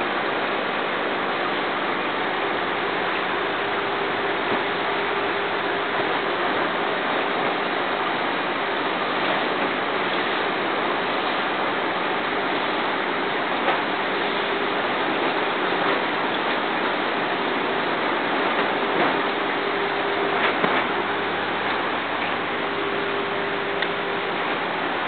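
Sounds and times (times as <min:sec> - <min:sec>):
aquarium air bubbles rushing: 0:00.0 - 0:25.0
faint steady hum: 0:00.0 - 0:25.0.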